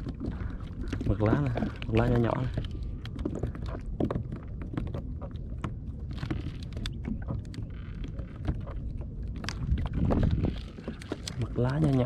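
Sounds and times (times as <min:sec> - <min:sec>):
water lapping against kayak hull: 0:00.0 - 0:12.0.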